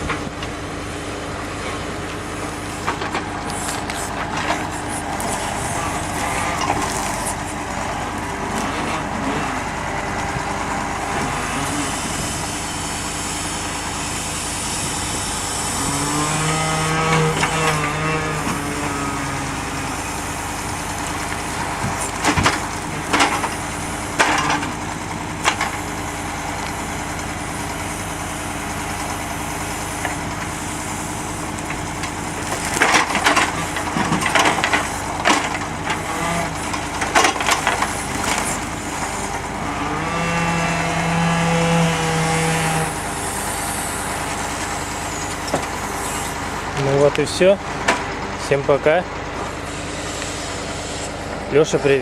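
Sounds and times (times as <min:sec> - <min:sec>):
logs dropping with wooden clunks: 0:00.0 - 0:51.6
truck engine running: 0:00.0 - 0:52.0.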